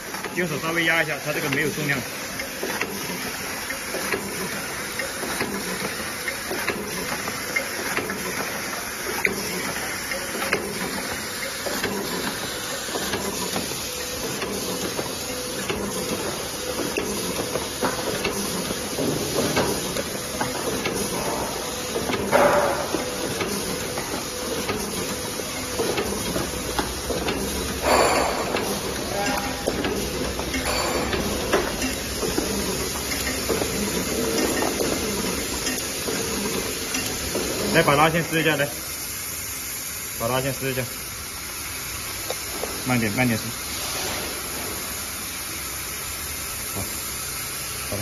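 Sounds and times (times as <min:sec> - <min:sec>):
wrapping machine hissing: 0:00.0 - 0:48.0.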